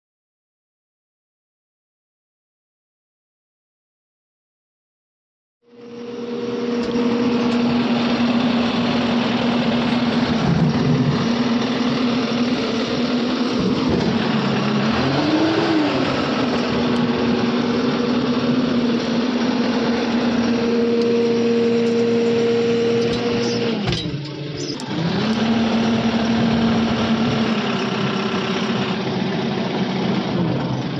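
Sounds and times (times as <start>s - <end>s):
diesel engine running: 5.6s - 30.9s.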